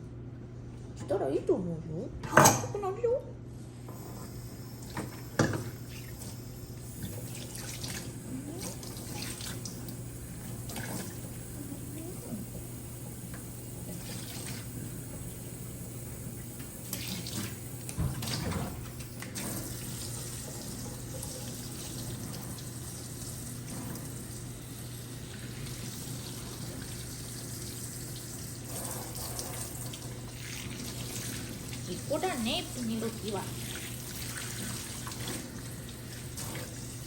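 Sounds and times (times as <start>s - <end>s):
tap water running into sink: 3.9s - 37.0s.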